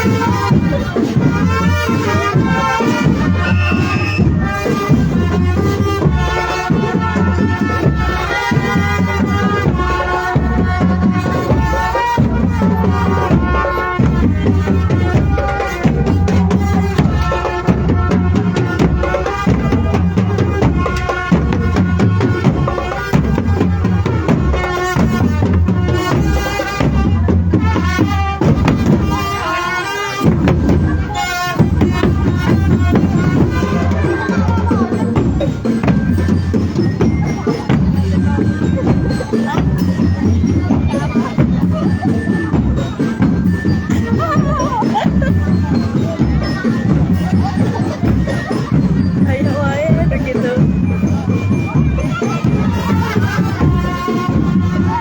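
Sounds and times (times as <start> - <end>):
drum band playing: 0.0 - 55.0.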